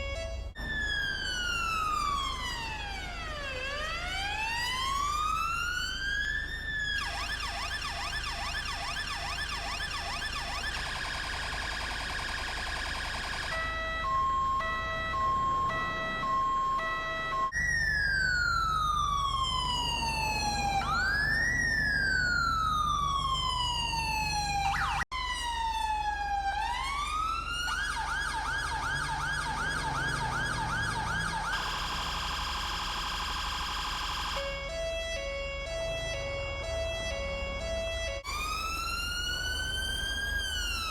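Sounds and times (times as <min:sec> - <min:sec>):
police siren: 0:00.0 - 0:40.9.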